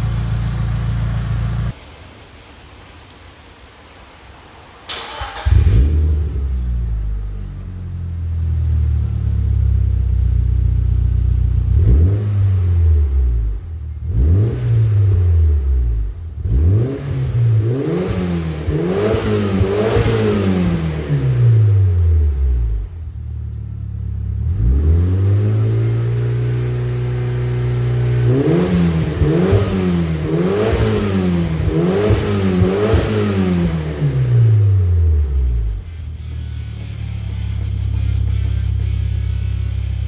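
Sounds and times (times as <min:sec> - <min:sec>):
car engine revving: 0:00.0 - 0:01.8, 0:04.9 - 0:40.0.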